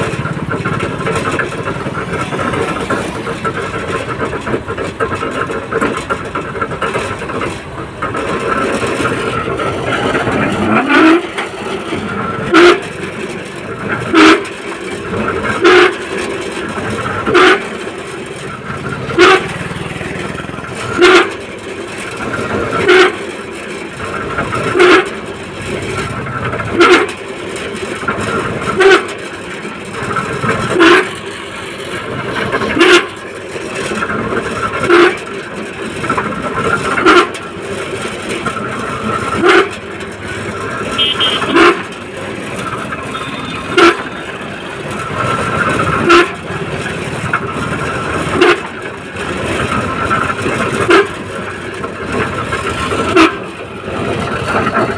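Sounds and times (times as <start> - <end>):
site machinery running: 0.0 - 54.9.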